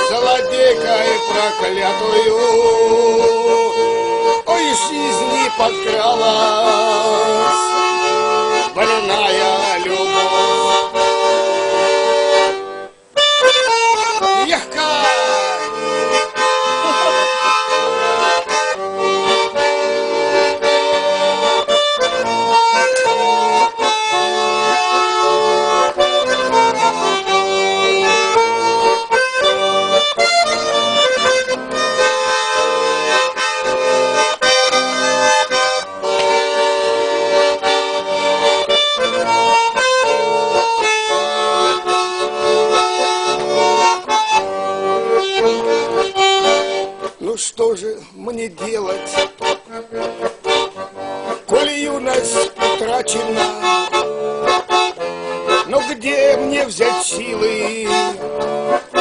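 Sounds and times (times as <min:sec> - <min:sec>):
accordion playing: 0:00.0 - 0:59.0.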